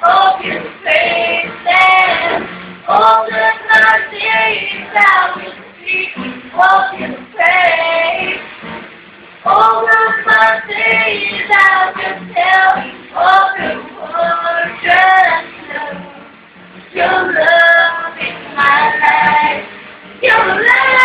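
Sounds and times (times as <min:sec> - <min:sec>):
woman and man singing: 0:00.0 - 0:08.4, 0:09.5 - 0:16.3, 0:17.0 - 0:21.0
acoustic guitar: 0:00.0 - 0:21.0.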